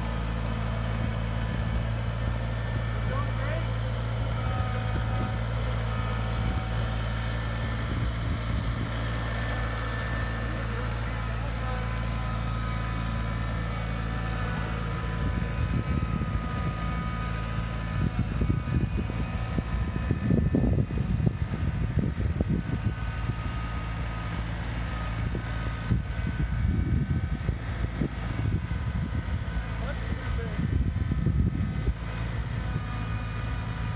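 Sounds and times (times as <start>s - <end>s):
tractor diesel engine running: 0.0s - 33.9s
uneven low rumbling: 0.0s - 33.9s.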